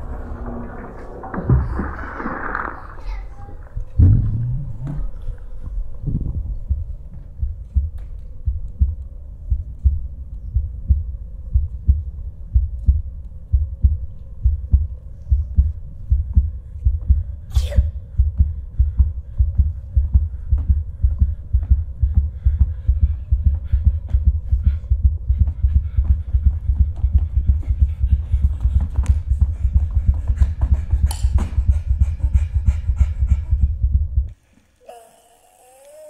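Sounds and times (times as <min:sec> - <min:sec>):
heartbeat thumps: 0:03.8 - 0:34.4.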